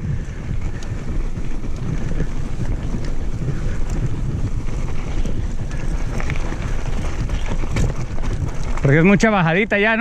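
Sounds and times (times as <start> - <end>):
wind buffeting microphone: 0.0 - 10.0
faint ticks: 0.3 - 8.9.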